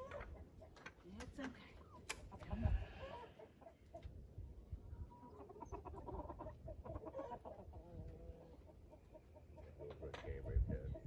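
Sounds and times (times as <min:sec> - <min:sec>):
chickens clucking: 0:00.0 - 0:01.0, 0:02.0 - 0:04.2, 0:05.0 - 0:11.0.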